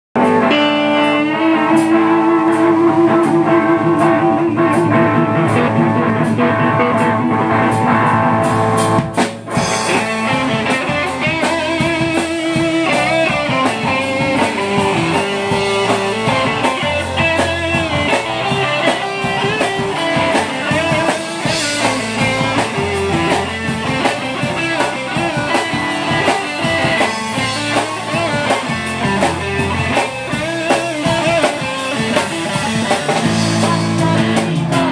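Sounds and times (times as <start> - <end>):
live rock band playing: 0.2 - 34.9.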